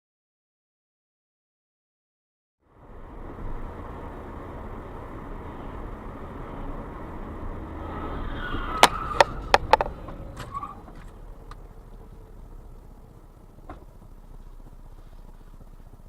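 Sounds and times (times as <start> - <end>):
car road noise: 2.6 - 16.0.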